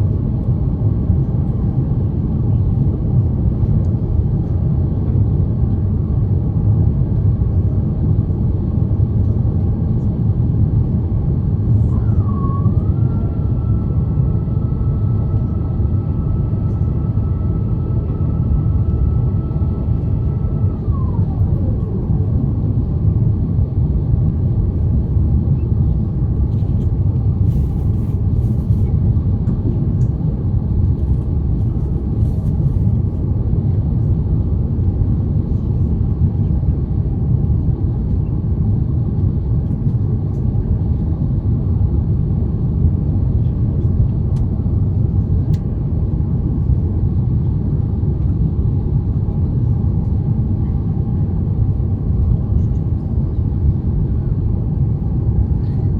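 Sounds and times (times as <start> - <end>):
airplane cabin engine and airflow rumble: 0.0 - 55.9.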